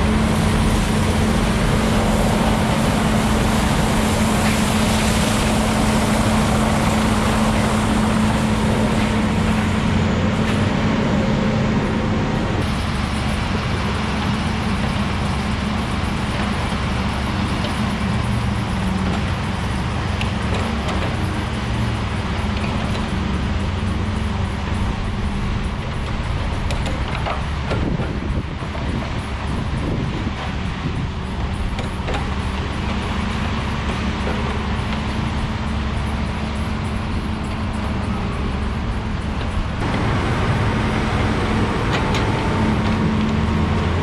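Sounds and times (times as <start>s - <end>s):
log loader loading logs: 0.0s - 44.0s
skidder engine drone: 0.0s - 44.0s.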